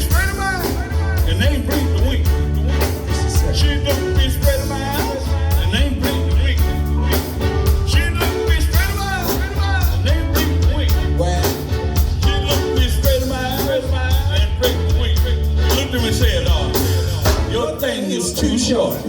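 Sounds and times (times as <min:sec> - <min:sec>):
heavy bass: 0:00.0 - 0:19.0
live blues band: 0:00.0 - 0:19.0
sliding lead melody: 0:00.0 - 0:19.0
steady drum beat: 0:00.0 - 0:19.0.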